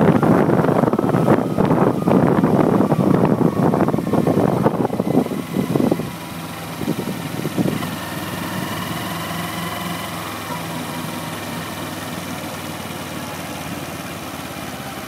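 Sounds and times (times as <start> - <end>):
wind buffeting on microphone: 0.0 - 12.4
motorcycle engine running: 0.0 - 15.0.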